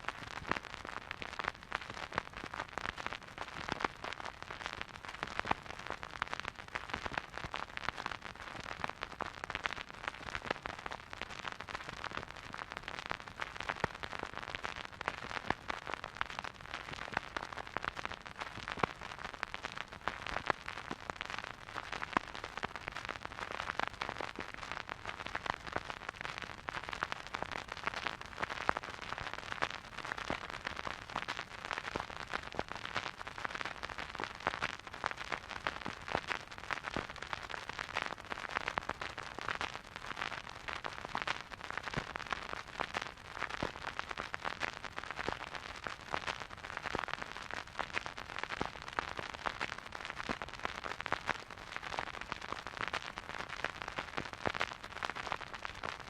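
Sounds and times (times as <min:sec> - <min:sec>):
vinyl crackles and pops: 0:00.0 - 0:56.0
vinyl record hiss: 0:00.0 - 0:56.0.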